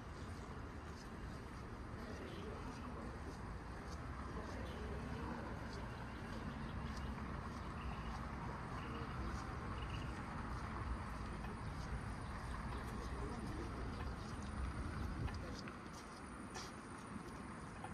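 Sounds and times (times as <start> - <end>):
low traffic hum: 0.0 - 17.9
pedestrian bustle: 0.0 - 17.9.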